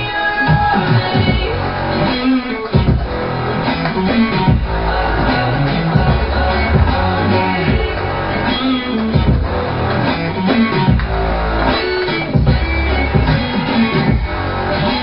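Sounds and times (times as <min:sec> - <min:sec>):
electronic music with guitar: 0:00.0 - 0:15.0
heavy bass beat: 0:00.0 - 0:15.0.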